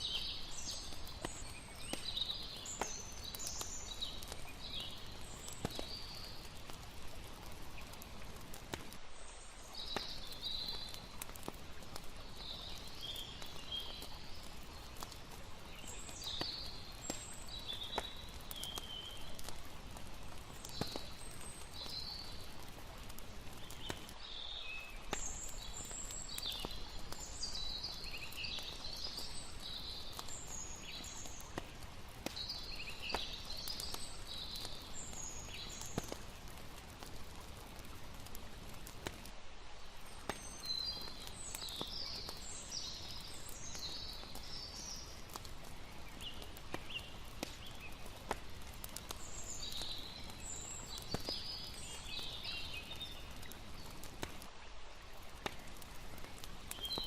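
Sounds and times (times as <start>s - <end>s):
campfire crackling and popping: 0.0s - 57.0s
running water hiss: 0.0s - 57.0s.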